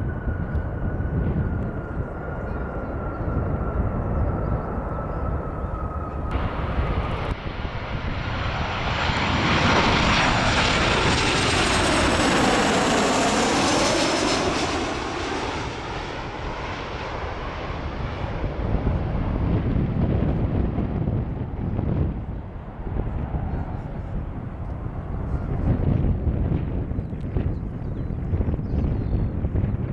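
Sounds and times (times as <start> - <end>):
jet airliner passing overhead: 0.0 - 29.9.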